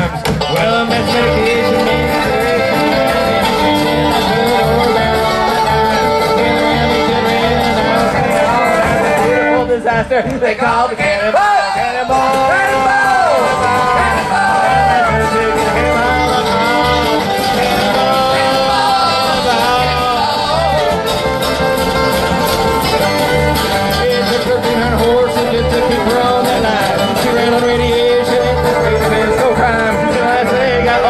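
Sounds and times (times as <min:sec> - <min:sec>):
fiddle melody: 0:00.0 - 0:31.0
strummed guitar and mandolin: 0:00.0 - 0:31.0.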